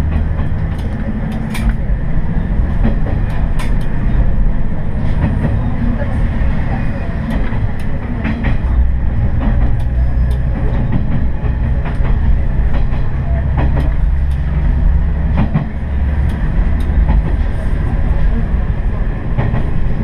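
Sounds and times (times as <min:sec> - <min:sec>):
diesel railcar engine drone: 0:00.0 - 0:20.0
wheels clicking over rail joints: 0:00.0 - 0:20.0.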